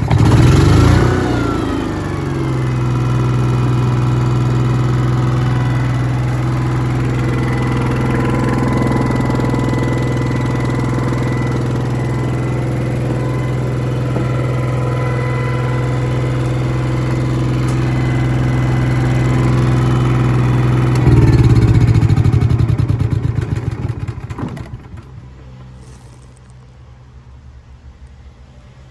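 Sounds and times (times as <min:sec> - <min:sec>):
generator engine running: 0:00.0 - 0:26.6.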